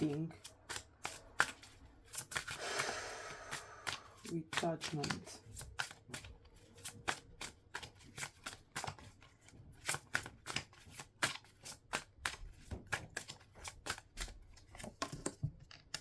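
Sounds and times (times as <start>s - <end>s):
cards being shuffled by hand: 0.0s - 16.0s.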